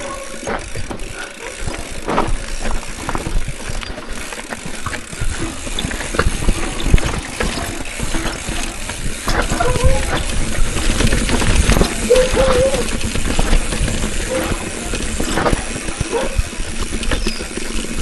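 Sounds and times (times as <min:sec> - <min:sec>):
bicycle rattling over rocks: 0:00.0 - 0:18.0.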